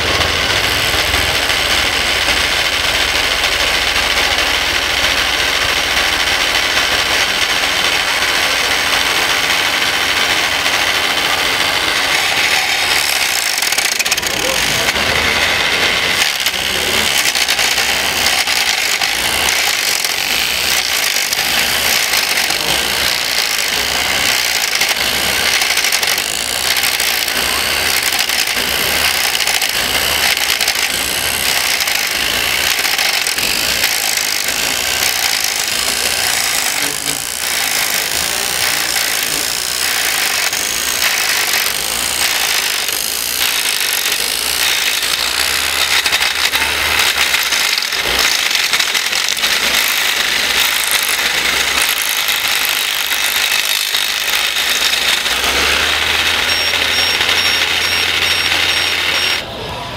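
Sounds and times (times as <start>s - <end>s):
model wood chipper whirring: 0.0s - 59.9s.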